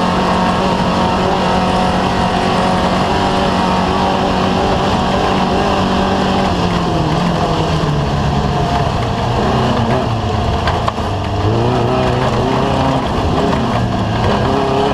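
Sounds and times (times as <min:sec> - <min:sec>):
vehicle engine running hard: 0:00.0 - 0:14.9.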